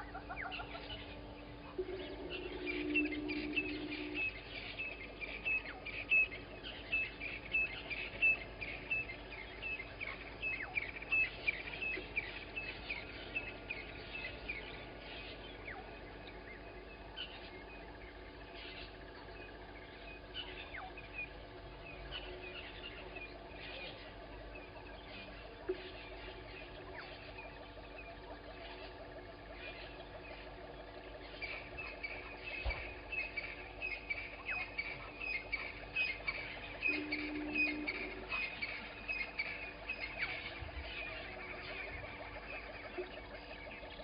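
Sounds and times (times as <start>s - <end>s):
lower bird call: 0.0s - 44.0s
other bird calls: 0.0s - 44.0s.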